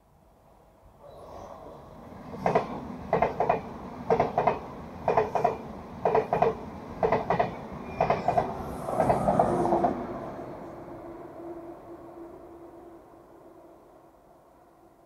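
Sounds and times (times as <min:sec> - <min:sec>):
high-speed train passing: 0:00.2 - 0:15.0.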